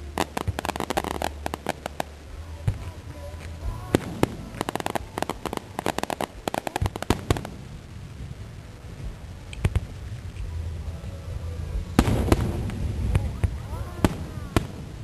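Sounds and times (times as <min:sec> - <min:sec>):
fireworks crackling bangs: 0:00.0 - 0:15.0.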